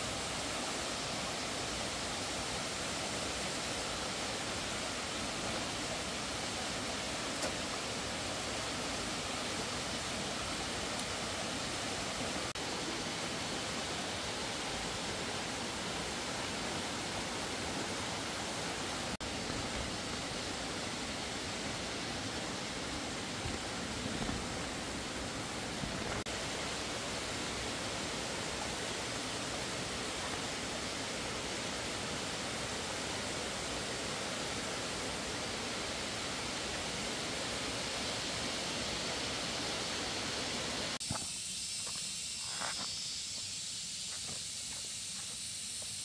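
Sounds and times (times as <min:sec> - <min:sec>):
high thin hiss: 0:00.0 - 0:46.0.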